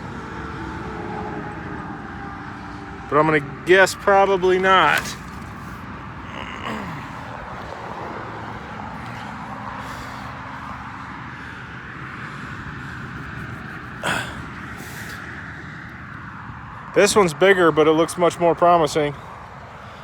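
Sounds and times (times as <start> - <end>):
highway traffic hiss: 0.0 - 20.0.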